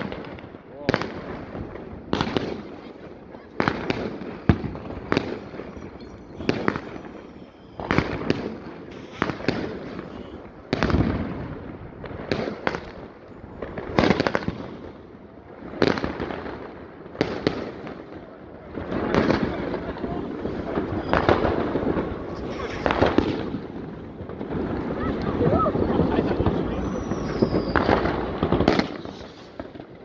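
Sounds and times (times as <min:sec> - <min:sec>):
firecracker bangs: 0:00.0 - 0:30.0.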